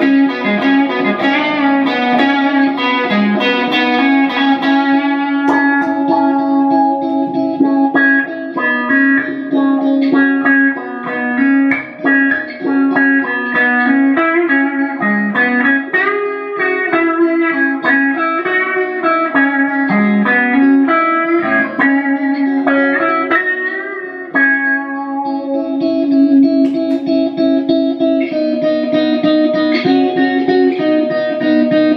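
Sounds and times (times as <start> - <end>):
electric guitar melody: 0.0 - 31.9.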